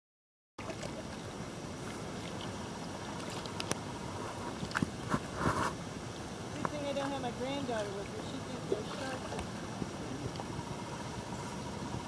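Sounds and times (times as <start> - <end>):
water hiss: 1.0 - 12.0.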